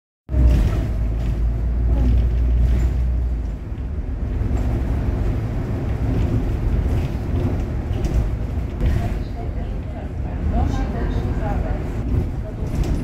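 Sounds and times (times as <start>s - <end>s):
bus driving road noise: 0.3s - 13.0s.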